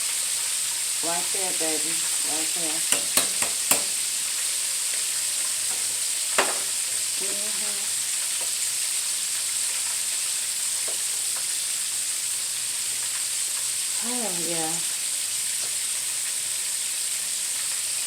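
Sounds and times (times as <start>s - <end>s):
oil sizzling in a wok: 0.0s - 18.0s.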